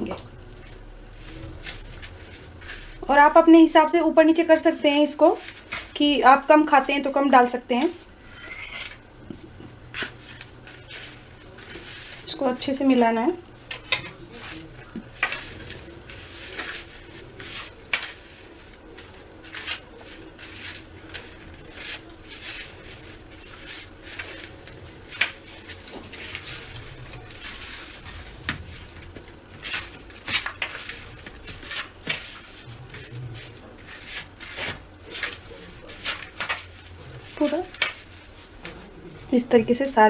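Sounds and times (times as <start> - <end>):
dough scraping: 0.0 - 40.0.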